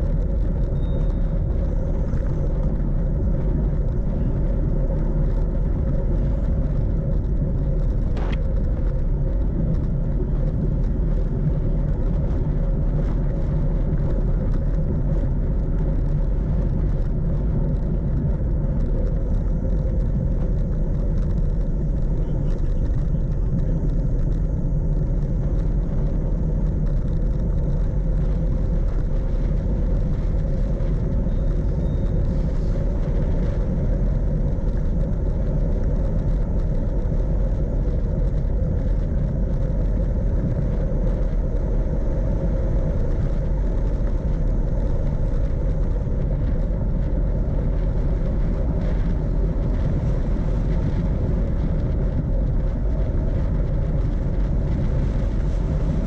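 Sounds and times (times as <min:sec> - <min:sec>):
bicycle tyres on asphalt: 0:00.0 - 0:56.0
wind on microphone: 0:00.0 - 0:56.0.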